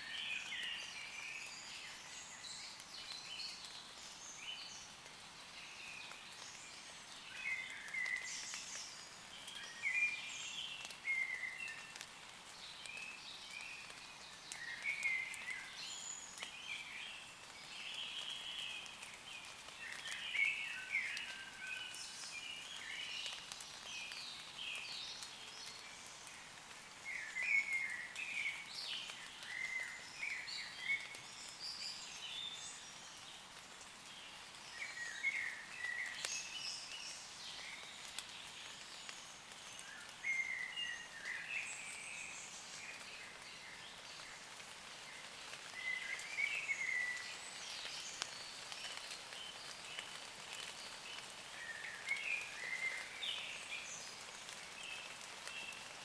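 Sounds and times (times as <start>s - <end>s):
light rain pattering on leaves: 0.0s - 56.0s.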